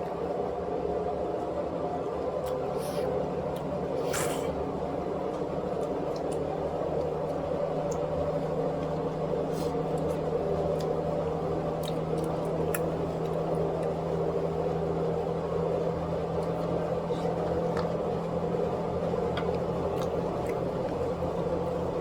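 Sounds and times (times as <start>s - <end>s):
household machine hum: 0.0s - 22.0s.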